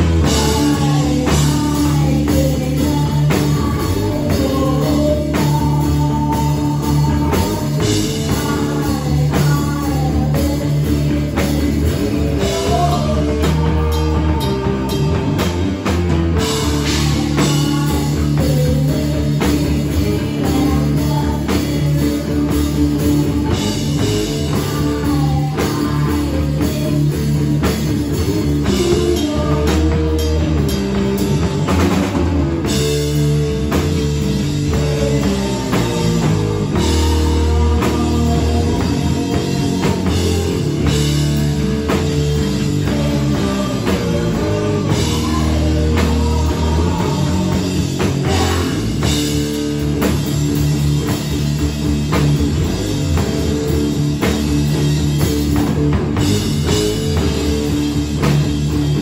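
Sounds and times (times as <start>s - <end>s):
bass guitar: 0.0s - 59.0s
distorted electric guitar: 0.0s - 59.0s
drum kit with cymbals: 0.0s - 59.0s.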